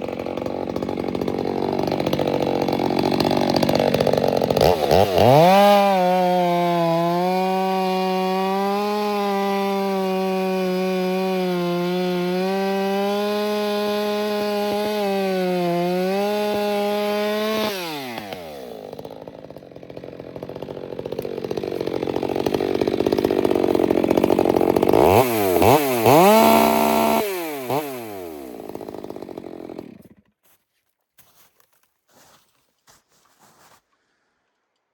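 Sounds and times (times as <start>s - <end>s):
chainsaw cutting wood: 0.0s - 30.5s.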